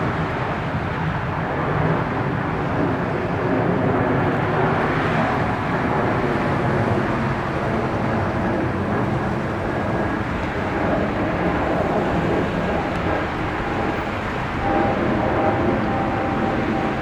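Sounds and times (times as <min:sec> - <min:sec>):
jet airliner engines running: 0:00.0 - 0:17.0.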